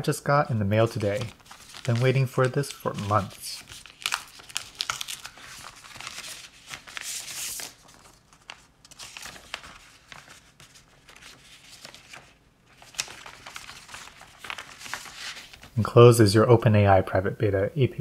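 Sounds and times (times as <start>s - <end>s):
paper rustling and crinkling: 0.7s - 15.8s
paper envelope tearing: 0.8s - 15.7s.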